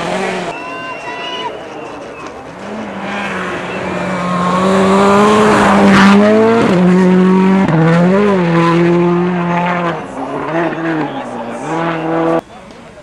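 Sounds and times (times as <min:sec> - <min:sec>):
rally car engine revving: 0:00.0 - 0:00.5, 0:02.4 - 0:12.4.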